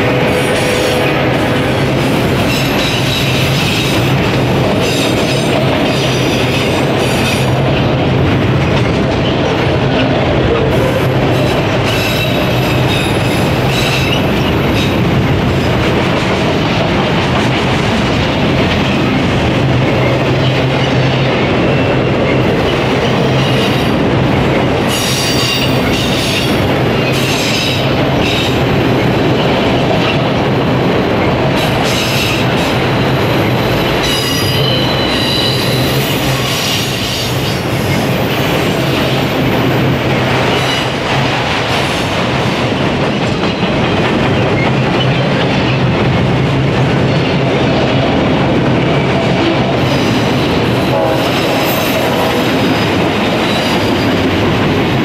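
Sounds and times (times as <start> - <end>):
steel wheels on rail: 0.0 - 55.0.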